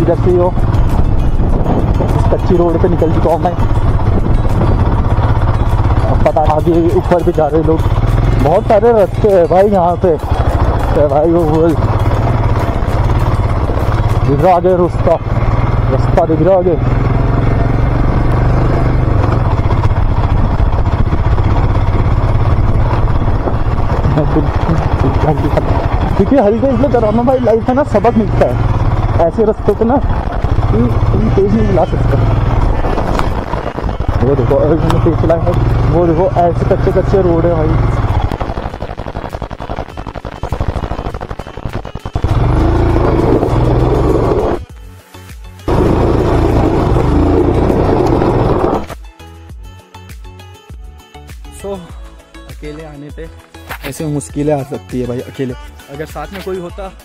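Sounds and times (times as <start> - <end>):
motorcycle engine running: 0.0 - 44.8, 45.5 - 49.1.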